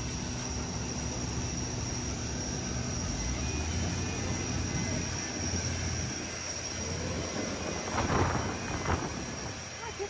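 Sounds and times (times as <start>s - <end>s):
high whine: 0.0s - 10.0s
jet engine rush: 0.0s - 10.0s.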